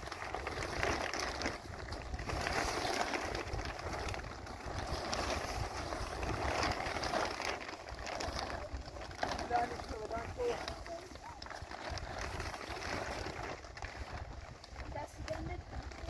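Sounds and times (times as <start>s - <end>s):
plastic tarp crinkling: 0.0s - 16.0s
wind rumble on microphone: 0.0s - 16.0s.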